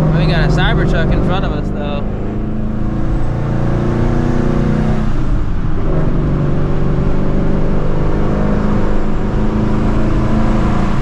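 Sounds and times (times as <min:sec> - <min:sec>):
car engine cruising: 0:00.0 - 0:11.0.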